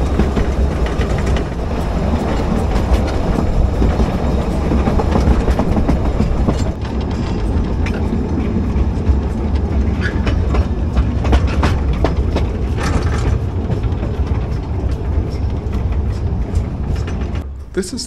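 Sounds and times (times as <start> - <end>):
wheels clacking and knocking: 0.0 - 17.6
train rumble: 0.0 - 18.0.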